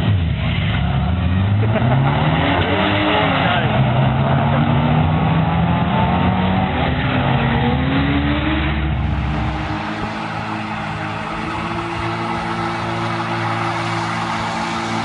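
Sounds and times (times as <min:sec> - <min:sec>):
car engines at full throttle: 0:00.0 - 0:15.0.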